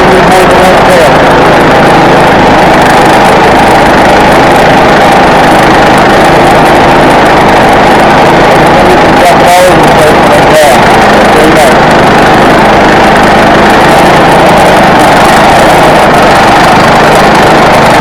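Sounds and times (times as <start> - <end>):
small engine running loudly: 0.0 - 18.0.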